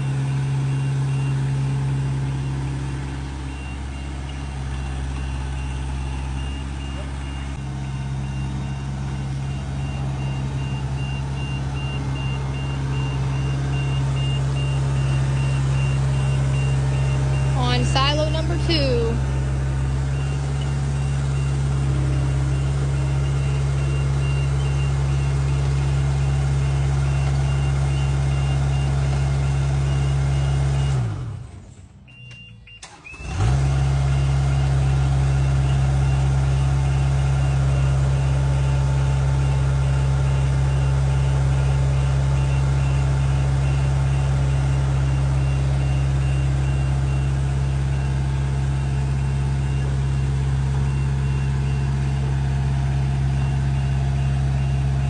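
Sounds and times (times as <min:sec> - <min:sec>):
faint warning beep: 0:00.0 - 0:31.2, 0:32.1 - 0:33.1, 0:34.2 - 0:55.0.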